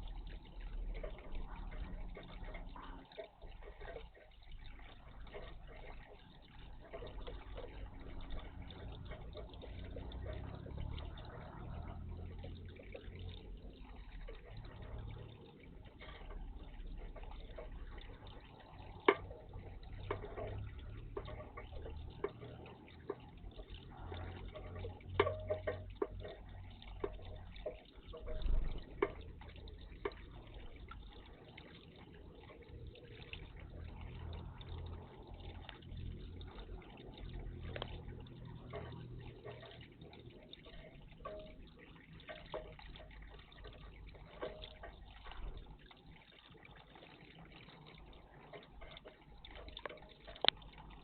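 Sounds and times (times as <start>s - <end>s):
water splashing and dripping: 0.0s - 51.0s.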